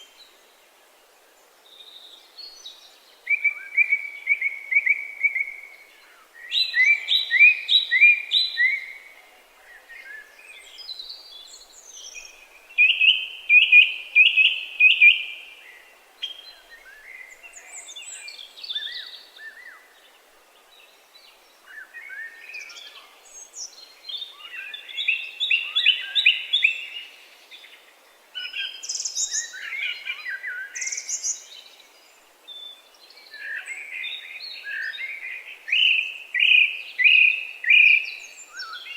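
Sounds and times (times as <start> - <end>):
faint steady hiss: 0.0 - 38.9
songbirds chirping: 0.0 - 38.9.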